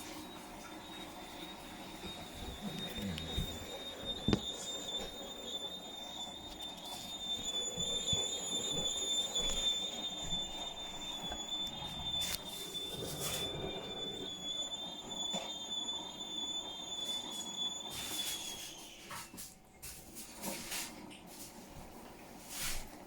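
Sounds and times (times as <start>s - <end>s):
appliance squealing high-pitched: 0.0s - 19.7s.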